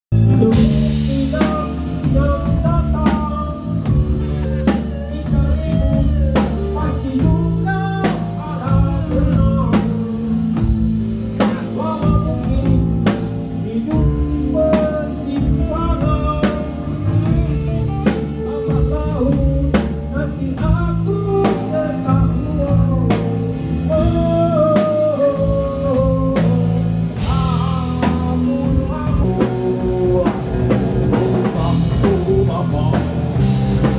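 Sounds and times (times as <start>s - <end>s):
drum kit: 0.1s - 33.9s
electric guitar: 0.1s - 33.9s
person singing: 0.2s - 33.9s.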